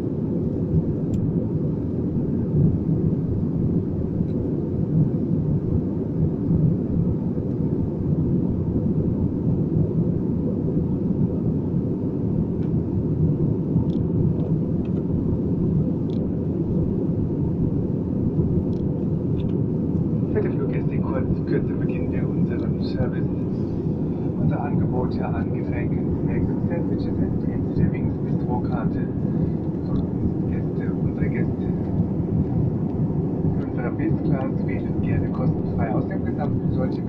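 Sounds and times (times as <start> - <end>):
airplane cabin engine drone: 0.0 - 37.0
faint steady hum: 0.0 - 37.0.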